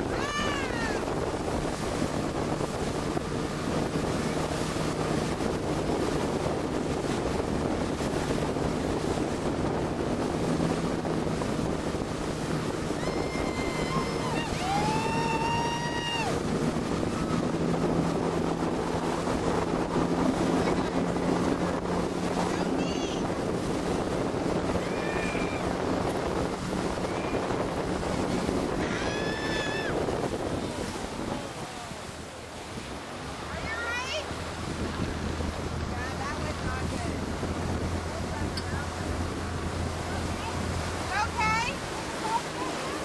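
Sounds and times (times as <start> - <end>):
churning wake water: 0.0 - 43.0
motorboat engine running: 0.0 - 43.0
wind on microphone: 0.0 - 43.0.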